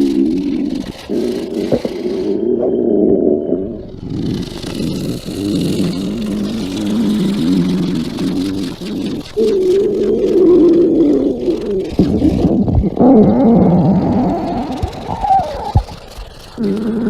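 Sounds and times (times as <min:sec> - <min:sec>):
stomach growl sound effect: 0:00.0 - 0:17.0.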